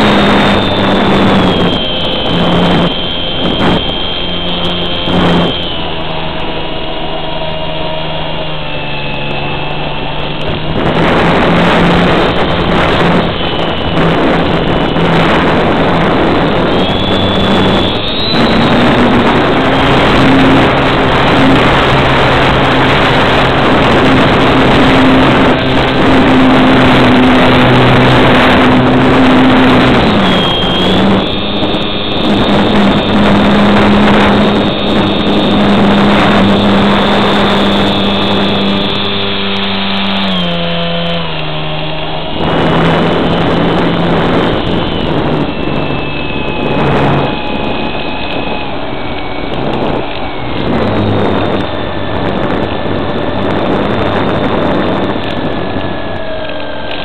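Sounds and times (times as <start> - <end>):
heavy wind rush: 0.0 - 57.0
model airplane motor drone: 0.0 - 57.0.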